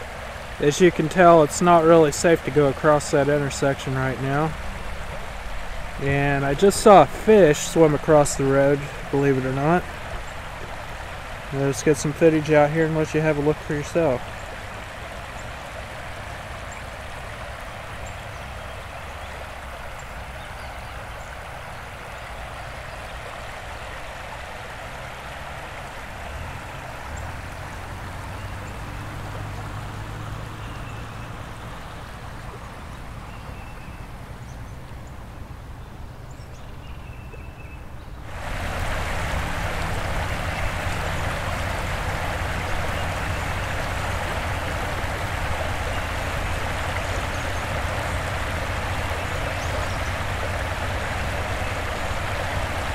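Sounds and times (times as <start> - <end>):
floodwater rushing and gurgling: 0.0 - 52.9.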